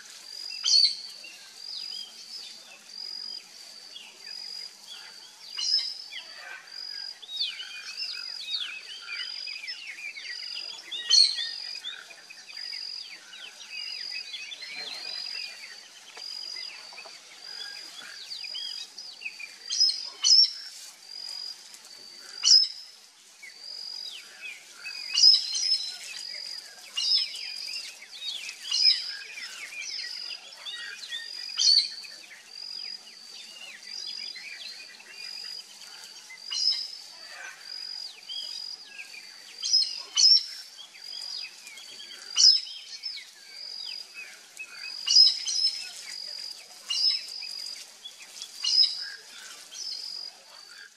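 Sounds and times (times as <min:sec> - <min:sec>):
birds chirping and trilling: 0:00.3 - 0:50.9.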